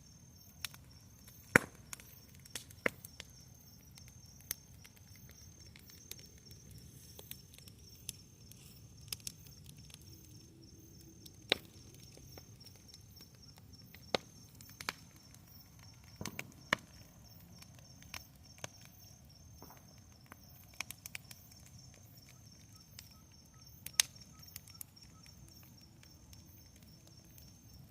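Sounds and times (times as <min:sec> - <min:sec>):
bonfire crackling: 0:00.0 - 0:27.9.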